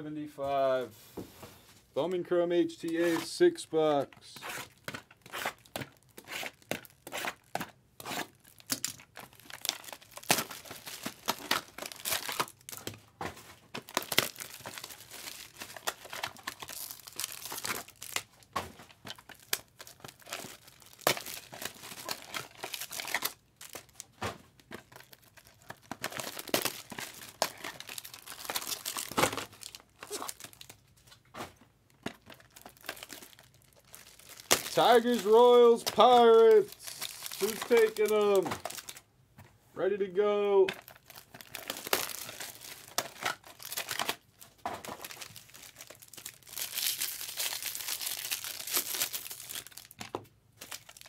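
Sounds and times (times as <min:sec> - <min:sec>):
plastic wrapping tearing: 0:04.4 - 0:12.9, 0:13.8 - 0:18.5, 0:19.1 - 0:30.8, 0:32.0 - 0:39.0, 0:40.7 - 0:51.0
plastic wrapping crackling: 0:08.2 - 0:39.1, 0:40.7 - 0:51.0.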